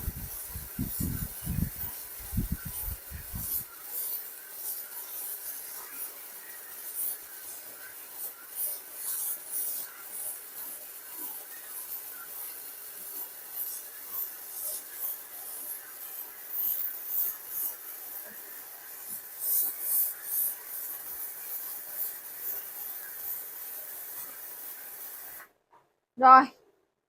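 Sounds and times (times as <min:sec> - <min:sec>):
welding arc crackle and hiss: 0:00.0 - 0:25.6.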